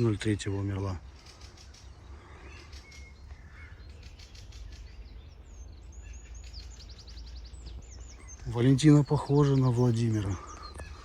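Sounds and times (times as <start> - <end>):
bird trill: 0.0 - 11.0
small birds chirping: 0.0 - 11.0.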